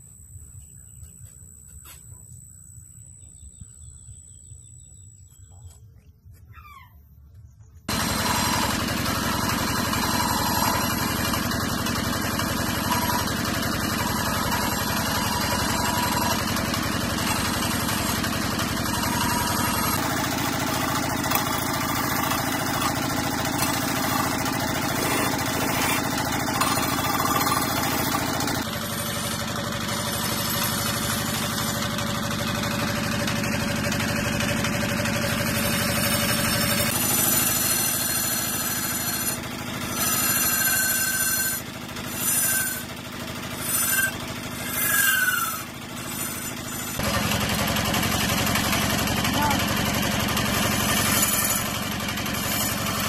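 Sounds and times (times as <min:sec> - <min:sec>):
chisel scraping spinning wood: 0:07.9 - 0:53.0
wood lathe motor hum: 0:07.9 - 0:53.0.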